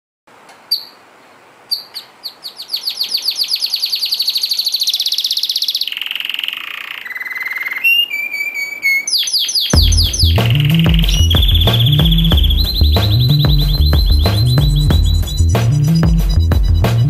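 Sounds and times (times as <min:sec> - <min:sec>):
canary singing: 0:00.7 - 0:01.1, 0:01.7 - 0:17.0.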